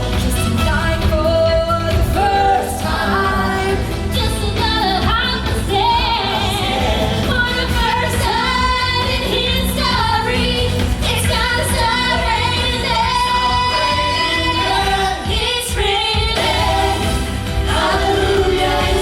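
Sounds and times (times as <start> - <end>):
pop song with sung vocal: 0.0 - 19.0.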